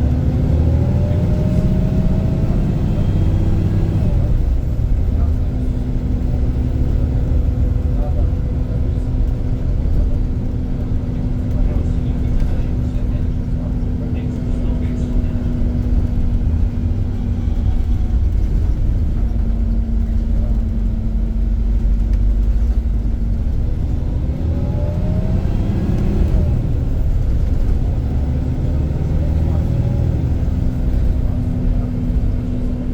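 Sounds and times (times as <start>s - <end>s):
bus diesel engine rumbling: 0.0s - 32.9s.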